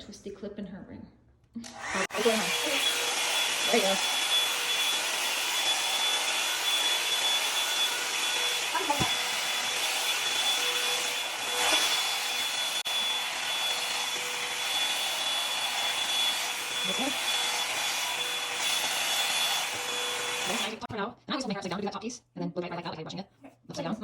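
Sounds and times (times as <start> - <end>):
hair dryer blowing: 1.6 - 20.9.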